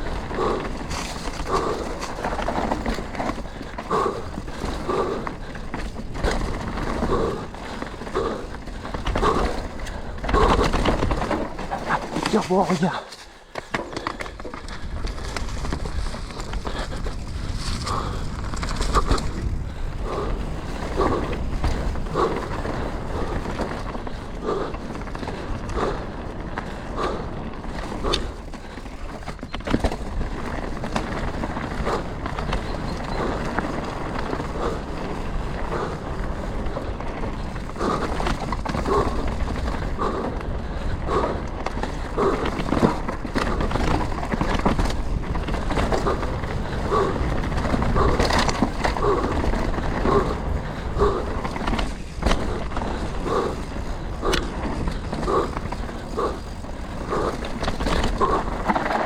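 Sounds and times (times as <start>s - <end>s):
bike tyres rumbling on dirt: 0.0s - 59.0s
rider breathing: 0.0s - 59.0s.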